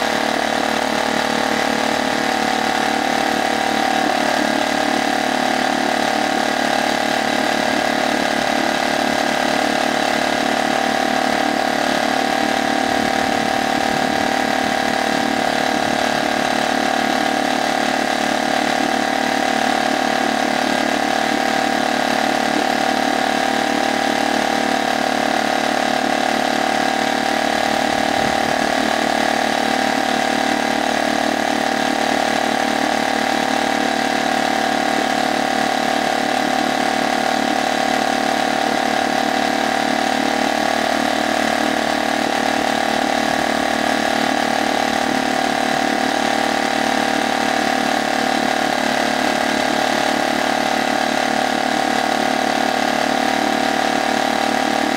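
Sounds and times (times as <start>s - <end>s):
outboard motor running: 0.0s - 54.9s
propeller churning water: 0.0s - 54.9s.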